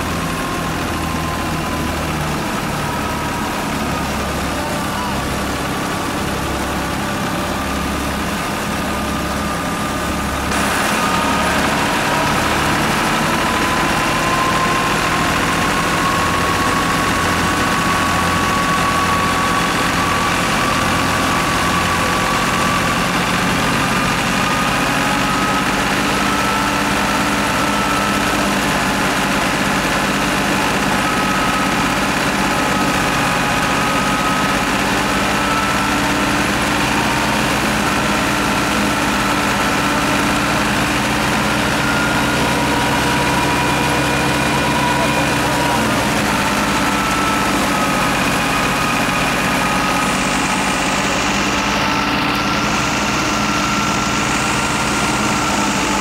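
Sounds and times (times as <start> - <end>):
thresher drum and belts whining: 0.0 - 56.0
tractor diesel engine under load: 0.0 - 56.0.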